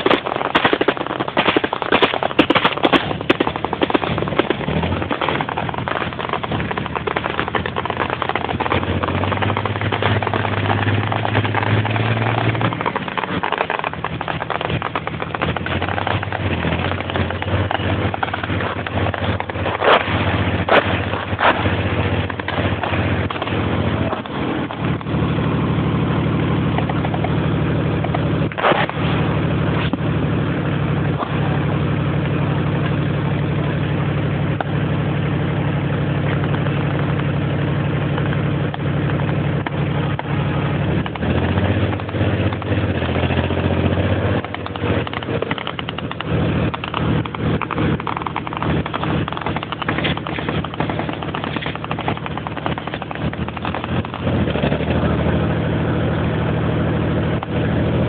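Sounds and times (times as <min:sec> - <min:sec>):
armoured vehicle engine running: 0:00.0 - 0:58.0.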